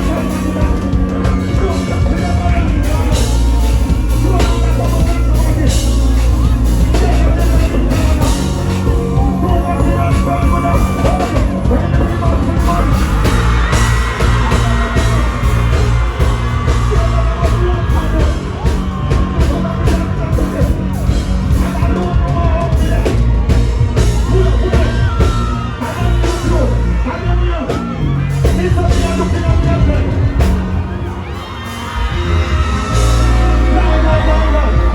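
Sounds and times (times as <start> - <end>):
crowd yelling: 0.0 - 34.9
dancehall music with heavy bass: 0.0 - 34.9
vocals: 0.0 - 34.9.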